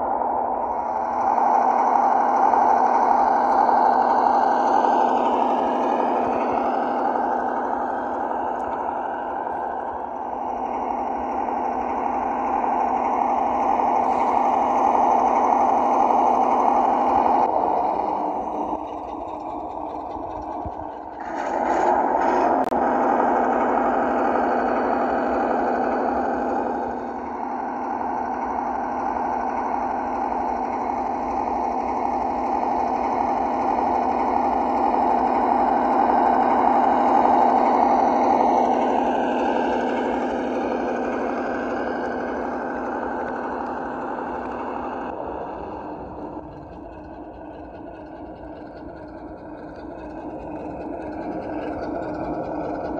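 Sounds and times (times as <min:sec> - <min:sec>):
simulated truck engine through speaker: 0:00.0 - 0:52.9.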